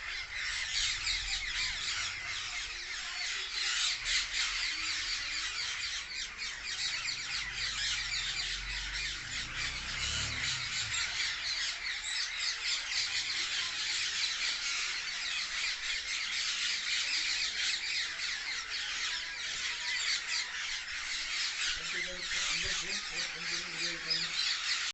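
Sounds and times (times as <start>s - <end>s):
parrots squawking and screeching: 0.0s - 24.9s.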